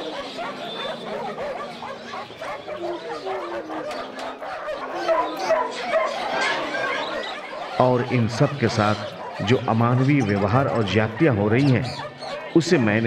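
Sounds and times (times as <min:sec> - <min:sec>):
puppies yipping and whining: 0:00.0 - 0:13.0.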